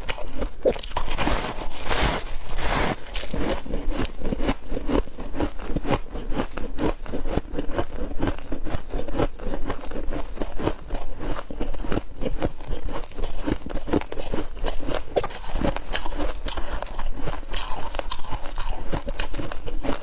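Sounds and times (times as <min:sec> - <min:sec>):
crunching frost chunks: 0:00.0 - 0:20.0.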